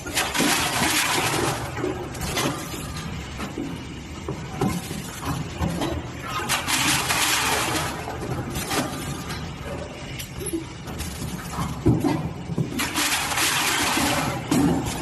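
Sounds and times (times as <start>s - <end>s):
mechanical clatter: 0.0s - 15.0s.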